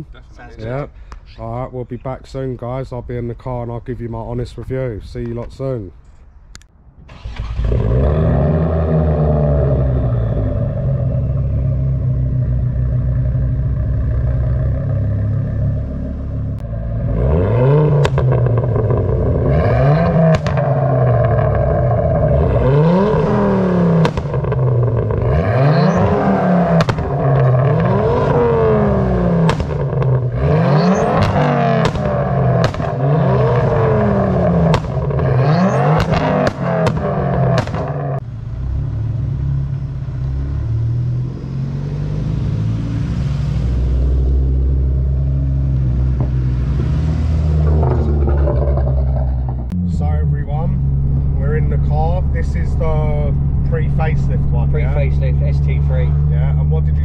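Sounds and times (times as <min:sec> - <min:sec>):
exhaust cracks: 0:06.6 - 0:41.4, 0:43.0 - 0:57.0
car engine revving: 0:07.1 - 0:57.0.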